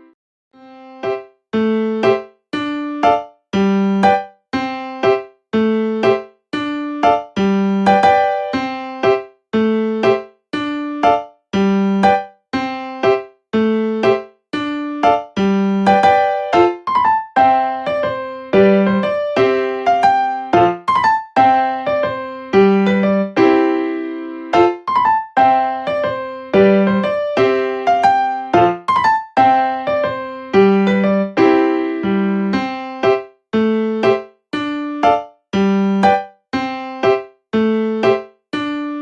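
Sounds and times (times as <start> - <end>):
electric piano tune: 0.8 - 39.0.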